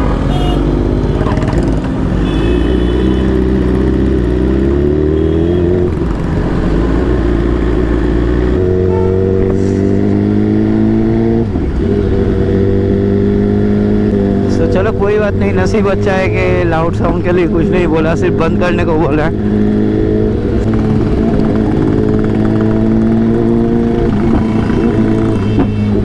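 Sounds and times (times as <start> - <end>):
motorcycle engine accelerating: 0.7 - 26.0.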